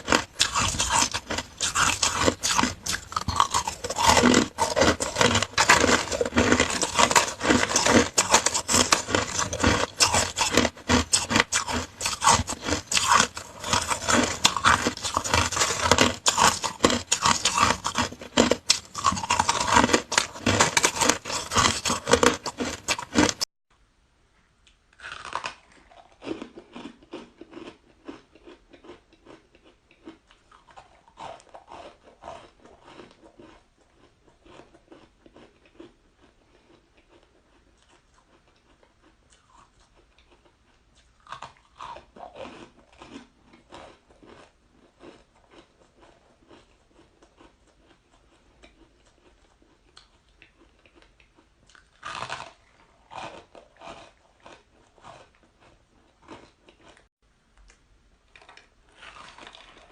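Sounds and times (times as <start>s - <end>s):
person crunching shaved ice: 0.0s - 23.5s, 25.0s - 48.0s, 51.7s - 57.0s, 58.4s - 59.9s.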